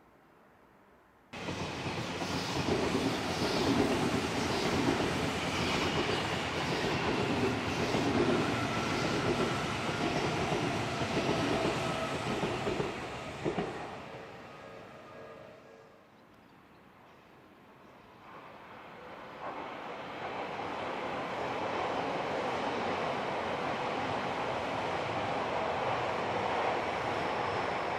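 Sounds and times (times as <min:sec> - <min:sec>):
electric train rumbling past: 0:01.4 - 0:16.0, 0:17.1 - 0:27.9.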